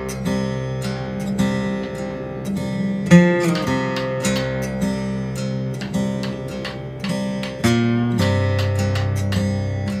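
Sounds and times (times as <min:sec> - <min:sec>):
acoustic guitar country tune: 0:00.0 - 0:10.0.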